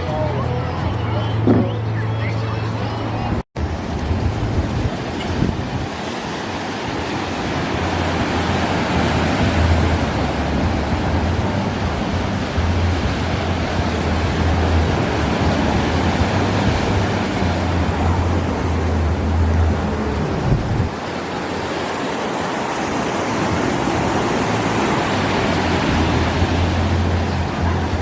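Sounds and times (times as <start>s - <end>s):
ocean waves breaking on beach: 3.0s - 28.0s.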